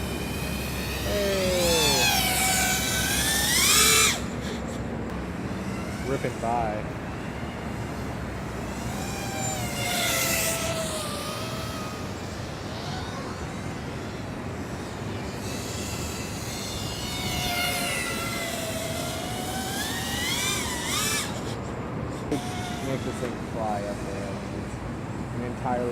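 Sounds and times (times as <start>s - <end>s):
quadcopter motor and propeller whine: 0.0s - 25.9s.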